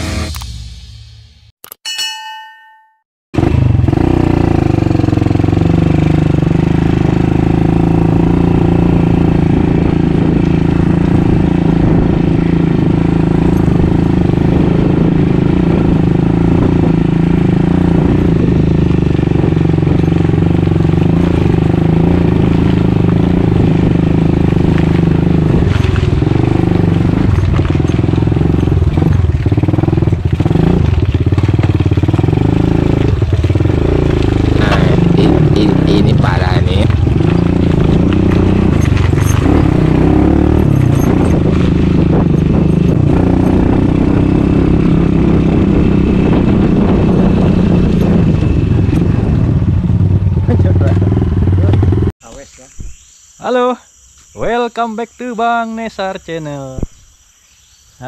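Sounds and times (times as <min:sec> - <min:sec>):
dirt bike engine running: 0:02.2 - 0:52.1.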